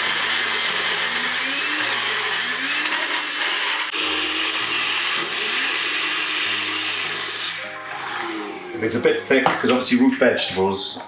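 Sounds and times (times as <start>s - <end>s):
blender running: 0.0s - 9.9s.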